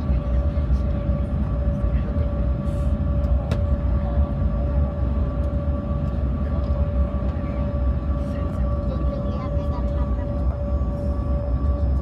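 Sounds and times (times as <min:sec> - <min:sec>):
jet engines whining: 0:00.0 - 0:12.0
low continuous rumble: 0:00.0 - 0:12.0.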